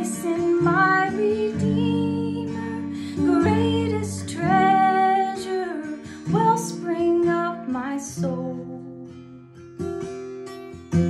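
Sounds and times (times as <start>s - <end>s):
woman singing a hymn: 0.0s - 9.1s
strummed acoustic guitar: 0.0s - 11.0s.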